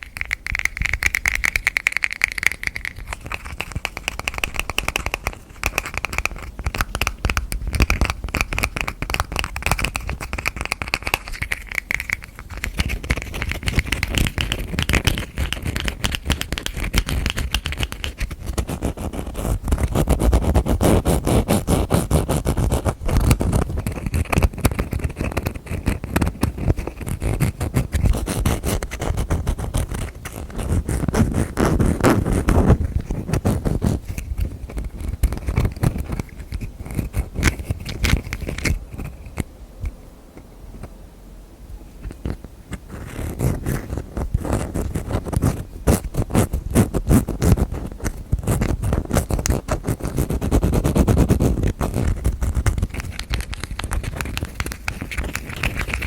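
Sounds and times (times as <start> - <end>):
fingers tapping on objects: 0.0 - 39.1, 44.4 - 56.0.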